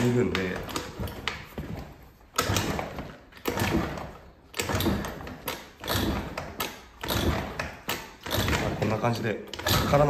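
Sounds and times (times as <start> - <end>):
moped engine cranking: 0.0 - 10.0.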